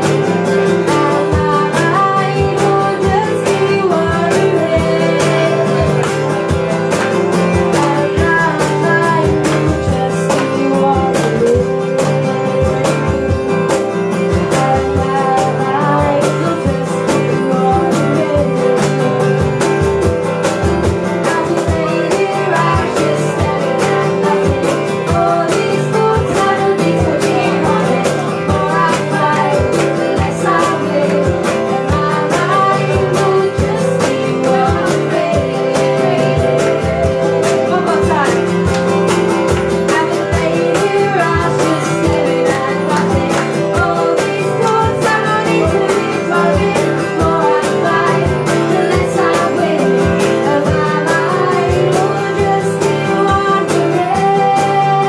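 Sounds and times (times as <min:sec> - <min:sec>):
acoustic guitar strumming: 0:00.0 - 0:55.0
woman singing: 0:00.0 - 0:55.0.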